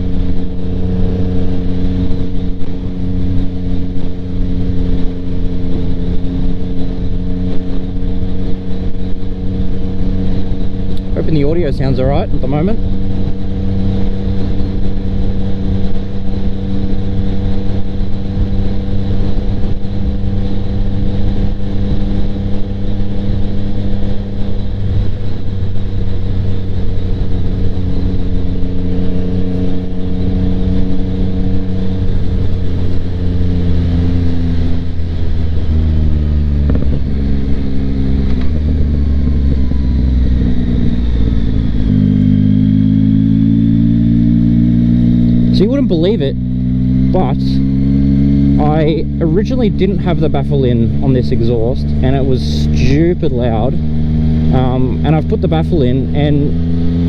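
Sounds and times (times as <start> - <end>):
motorcycle engine from helmet: 0.0 - 57.0.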